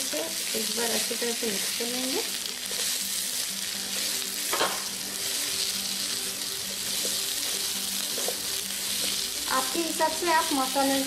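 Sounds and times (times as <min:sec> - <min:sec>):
eggplant sizzling in oil: 0:00.0 - 0:11.0.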